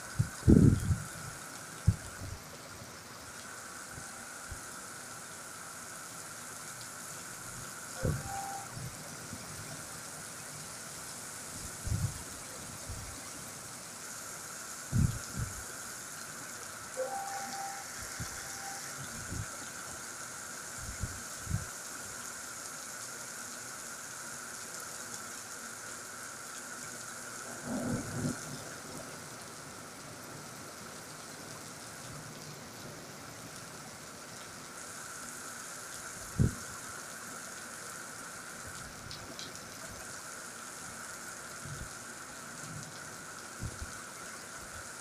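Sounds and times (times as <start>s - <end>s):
heavy rain on paving: 0.0s - 45.0s.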